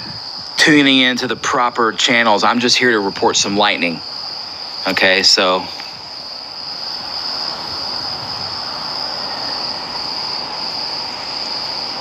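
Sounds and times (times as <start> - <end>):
crickets trilling: 0.0 - 12.0
outdoor hiss: 0.0 - 12.0.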